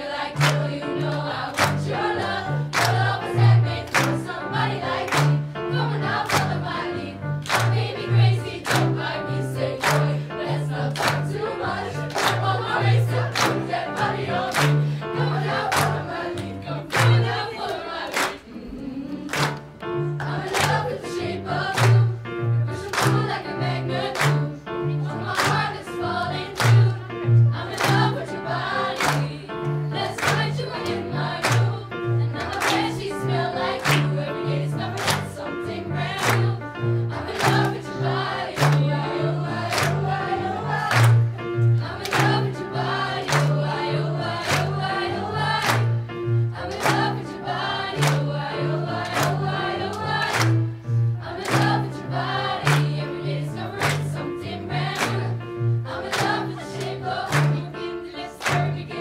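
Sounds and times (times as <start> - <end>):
youth choir singing: 0.0 - 59.0
hands clapping on the beat: 0.3 - 6.8, 7.4 - 18.5, 19.2 - 22.2, 22.8 - 24.6, 25.2 - 35.4, 36.0 - 53.0, 53.7 - 54.2, 54.8 - 55.4, 56.0 - 59.0.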